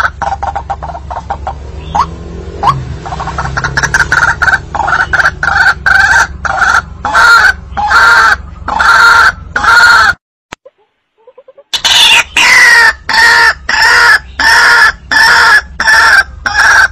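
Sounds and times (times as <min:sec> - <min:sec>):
recorded bird calls: 0:00.0 - 0:16.9.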